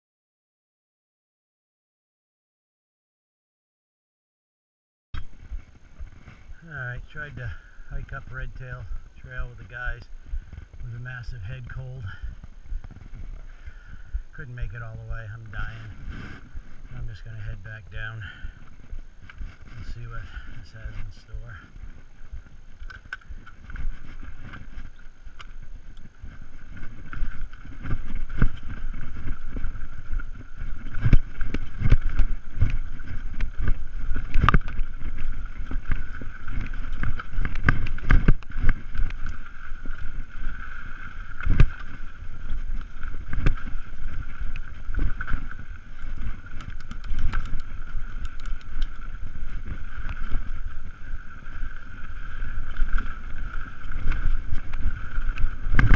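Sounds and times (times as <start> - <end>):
wind on microphone: 5.2 - 55.9
bike tyres rattling over ground: 8.2 - 55.9.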